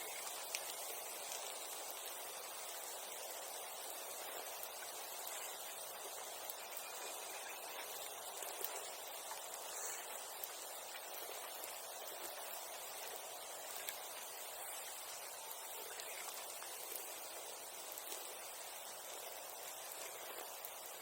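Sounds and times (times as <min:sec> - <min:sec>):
bonfire hissing: 0:00.0 - 0:21.0
fire crackling pops: 0:00.0 - 0:21.0.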